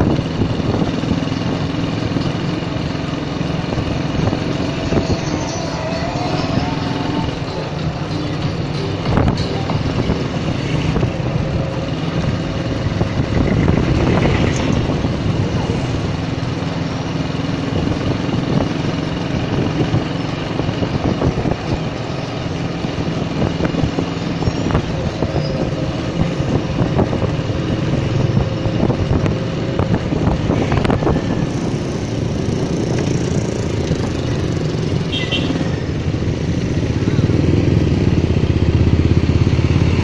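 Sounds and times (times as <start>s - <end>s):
motorcycle engine running: 0.0s - 40.0s
motorcycles passing: 0.0s - 40.0s
road noise: 0.0s - 40.0s.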